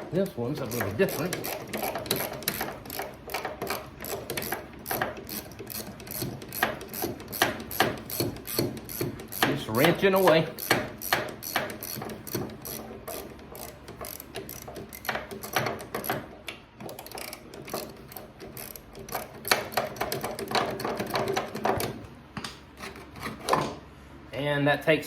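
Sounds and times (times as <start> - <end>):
hand ratchet clicking: 0.6 - 22.0.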